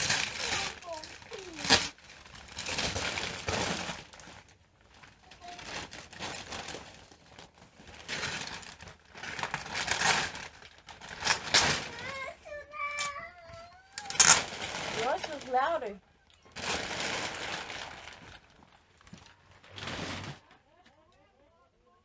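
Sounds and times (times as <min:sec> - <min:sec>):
sharp paper crackle: 0:00.0 - 0:20.6
wrapping paper rustling: 0:00.0 - 0:20.7.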